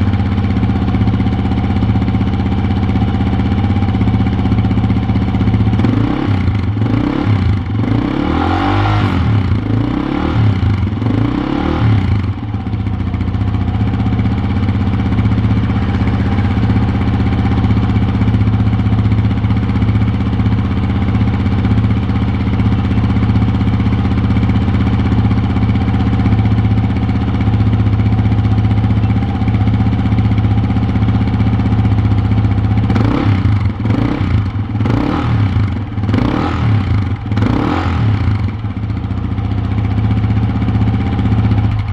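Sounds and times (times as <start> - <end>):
motorcycle engine revving and idling: 0.0 - 41.9.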